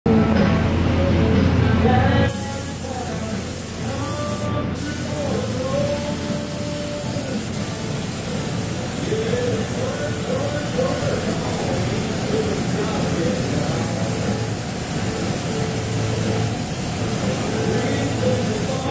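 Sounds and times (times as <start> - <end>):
music: 0.1 - 18.9
paint spray gun hissing: 2.3 - 18.9.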